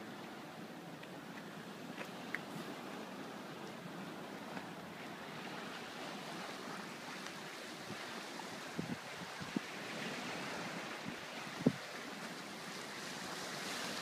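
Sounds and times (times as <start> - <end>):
water noise at seawall: 0.0 - 14.0
wind: 0.0 - 14.0.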